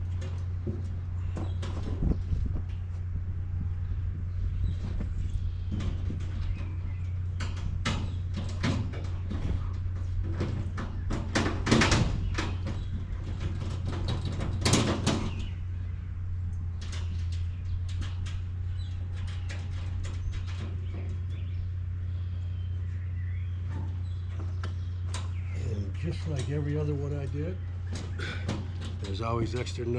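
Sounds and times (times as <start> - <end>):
metal panels knocking and clanking: 0.0 - 3.1, 4.6 - 15.8, 16.6 - 21.7, 23.6 - 29.9
steady low hum: 0.0 - 29.9.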